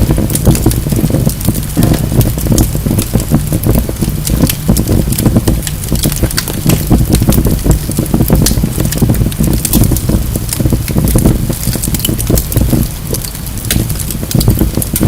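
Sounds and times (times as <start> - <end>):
flames rushing: 0.0 - 15.0
wood fire crackling and popping: 0.0 - 15.0.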